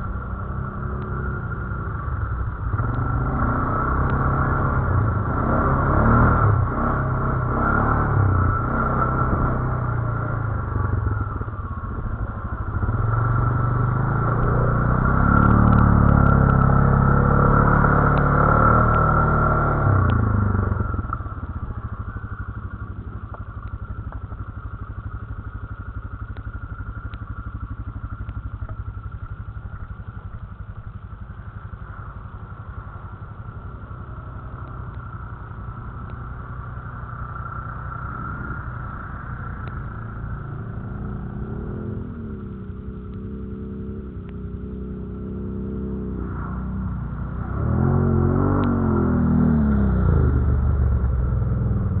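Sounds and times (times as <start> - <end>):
quad bike engine: 0.0 - 52.0.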